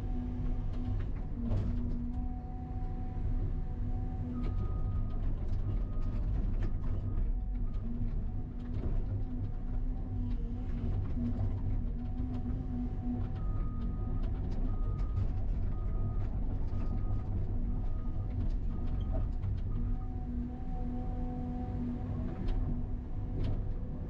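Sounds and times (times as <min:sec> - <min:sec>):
excavator diesel rumble: 0:00.0 - 0:24.0.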